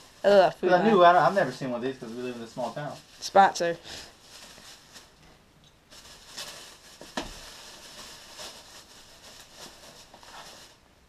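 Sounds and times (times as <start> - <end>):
plastic bag crinkling: 0.0 - 5.2, 5.9 - 10.8.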